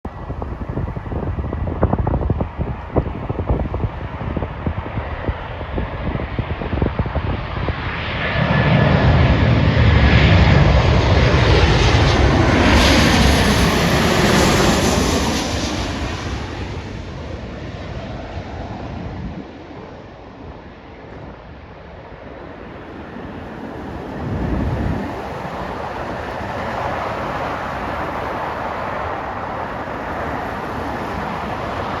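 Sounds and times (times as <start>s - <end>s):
jet airliner roaring past: 0.1s - 32.0s.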